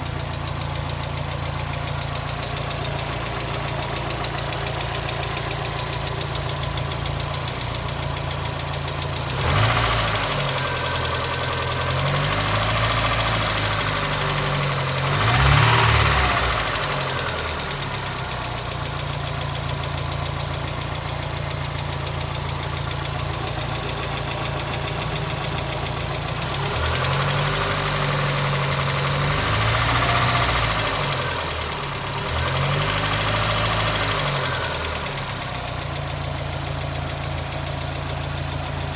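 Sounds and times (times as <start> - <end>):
car engine idling with a tick: 0.0 - 38.9
car engine revving: 0.0 - 38.9.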